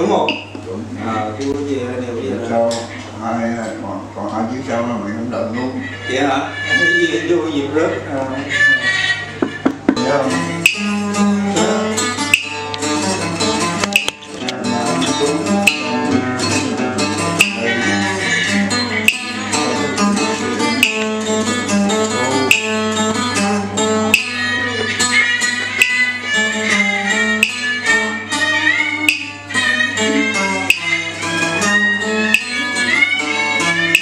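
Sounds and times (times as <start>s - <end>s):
acoustic guitar strumming: 0.0s - 34.0s
bowed fiddle melody: 5.3s - 34.0s.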